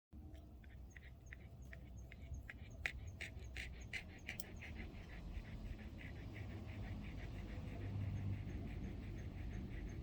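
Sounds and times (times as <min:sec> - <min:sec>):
low steady rumble: 0:00.1 - 0:10.0.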